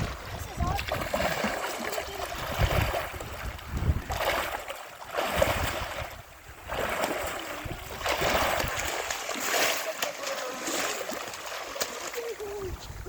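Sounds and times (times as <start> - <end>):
wind buffeting microphone: 0.0 - 9.7, 12.1 - 13.0
water splashing in surges: 0.0 - 13.0.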